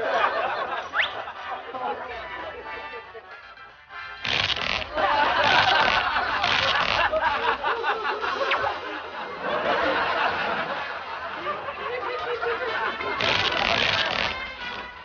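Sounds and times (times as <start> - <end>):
people laughing: 0.0 - 3.4, 4.6 - 15.0.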